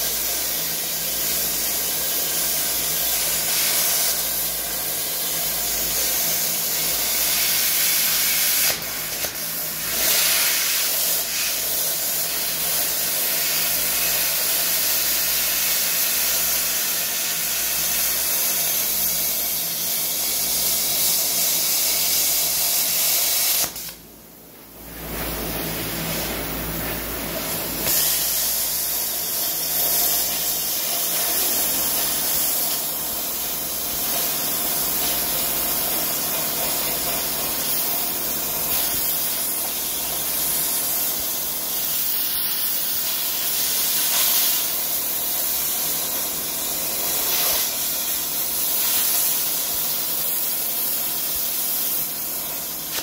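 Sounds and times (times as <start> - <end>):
plasma cutter hissing: 0.0 - 24.0, 25.6 - 26.5, 27.2 - 53.0.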